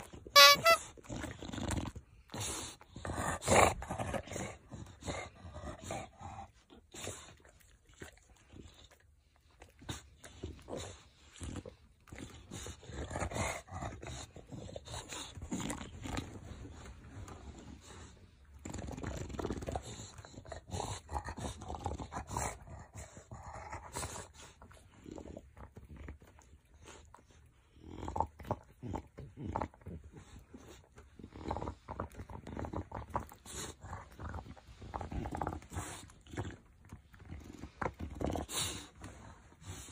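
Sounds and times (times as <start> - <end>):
dog breathing noisily and grunting: 0.9 - 39.9.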